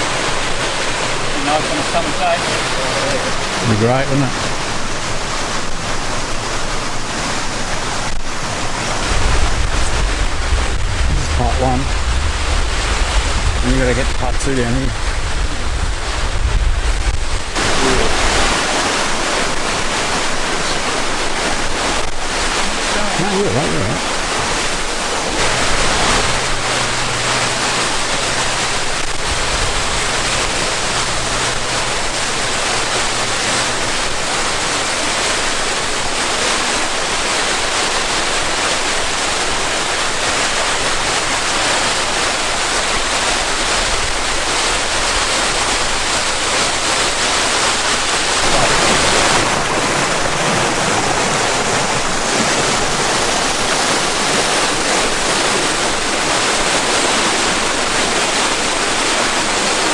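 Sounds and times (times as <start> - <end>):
waterfall rushing over rock: 0.0 - 59.9.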